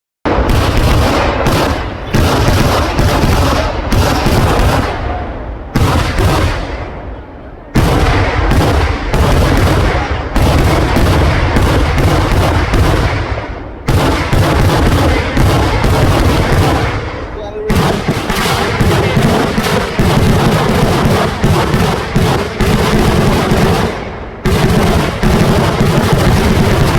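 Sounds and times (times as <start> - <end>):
firecracker bangs: 0.3 - 26.9.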